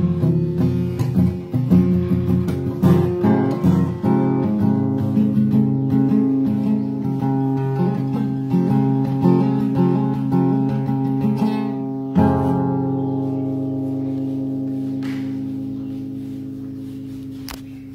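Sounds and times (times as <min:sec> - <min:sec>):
acoustic guitar playing: 0:00.0 - 0:17.9.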